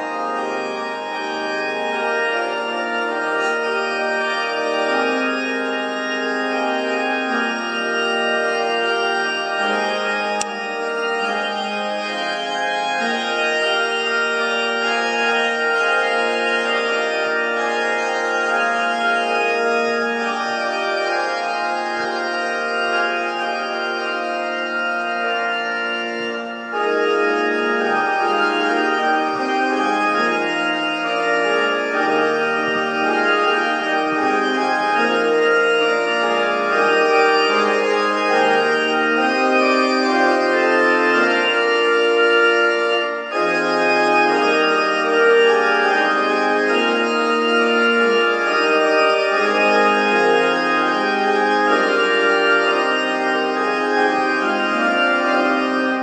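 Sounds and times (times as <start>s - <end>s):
organ playing slow chords: 0.0s - 56.0s.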